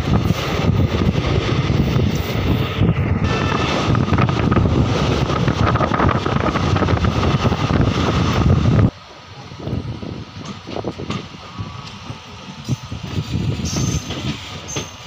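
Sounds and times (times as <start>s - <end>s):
train wheel and track rumble: 0.0s - 15.0s
wind blowing across microphone: 0.0s - 15.0s.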